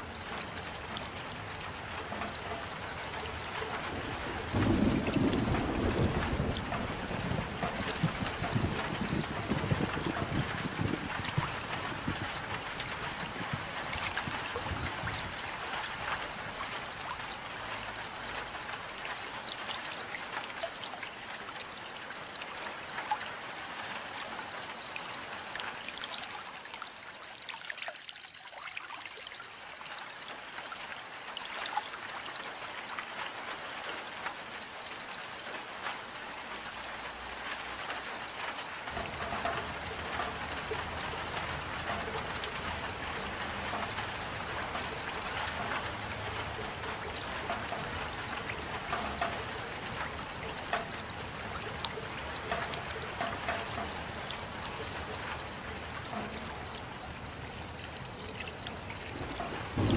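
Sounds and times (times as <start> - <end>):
steady rain hiss: 0.0 - 27.3, 29.6 - 59.9.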